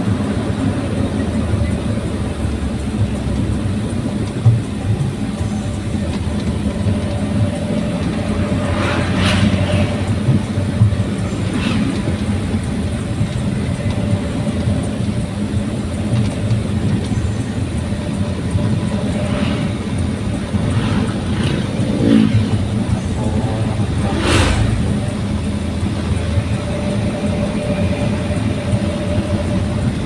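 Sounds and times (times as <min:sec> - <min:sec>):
pickup engine droning: 0:00.0 - 0:30.0.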